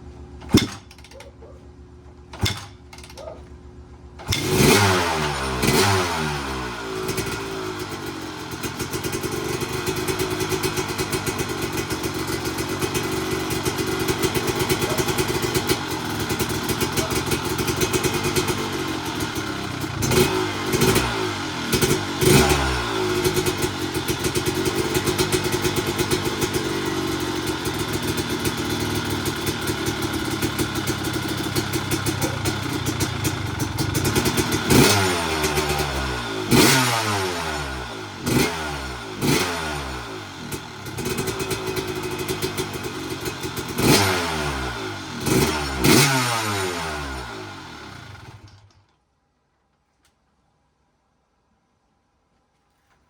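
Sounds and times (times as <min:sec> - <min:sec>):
two-stroke engine revving: 0:04.2 - 0:48.7.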